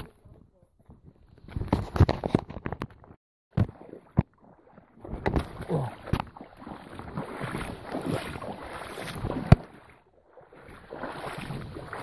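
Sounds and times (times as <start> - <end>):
water sloshing in creek: 0.0 - 12.0.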